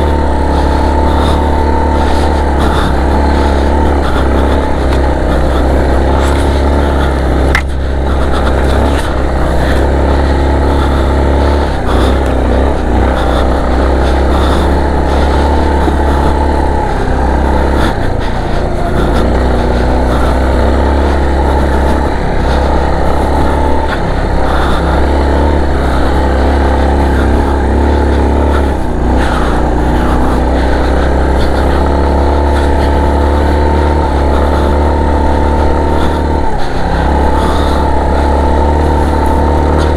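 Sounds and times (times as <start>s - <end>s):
deep rumble: 0.0s - 39.9s
vehicle engine running: 0.0s - 39.9s.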